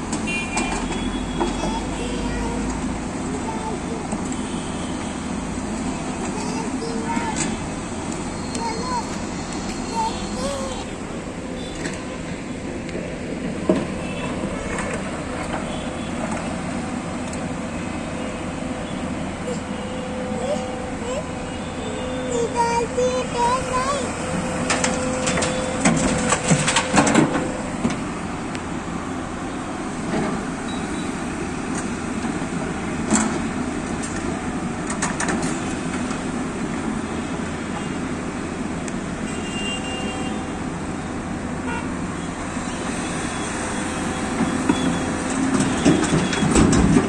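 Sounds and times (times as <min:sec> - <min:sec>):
excavator diesel engine running: 0:00.0 - 0:39.3, 0:40.5 - 0:47.0.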